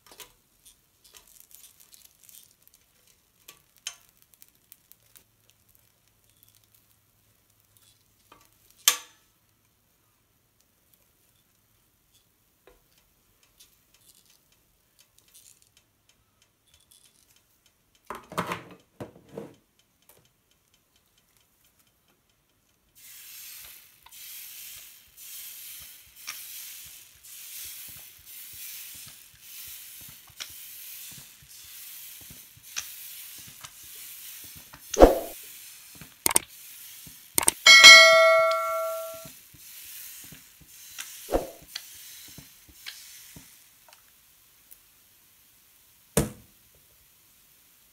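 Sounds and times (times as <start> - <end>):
batter sizzling on hot griddle: 0.0 - 17.6, 20.6 - 37.4, 39.3 - 47.9.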